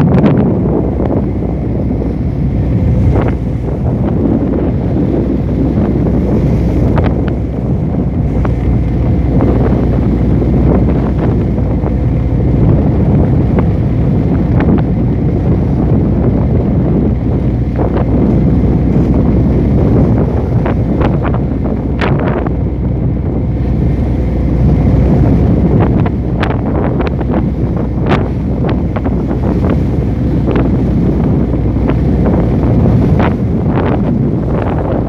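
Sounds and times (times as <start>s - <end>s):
big waves rushing: 0.0s - 35.0s
wind buffeting microphone: 0.0s - 35.0s.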